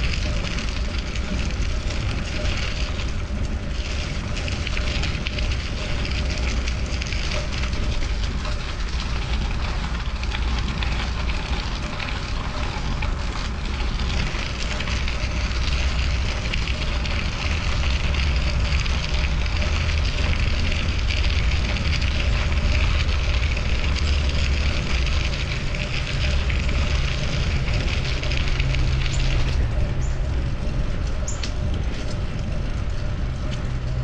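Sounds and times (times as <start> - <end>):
bicycle tyres rolling on road: 0.0 - 34.0
wind rumbling on microphone: 0.0 - 34.0.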